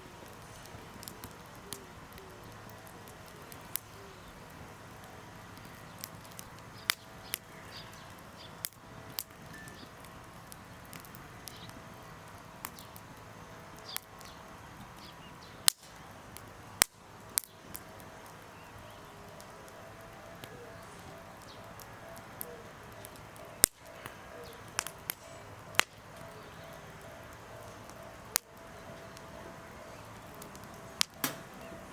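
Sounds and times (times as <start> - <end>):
campfire crackling and popping: 0.0 - 31.9
fire hissing: 0.0 - 31.9.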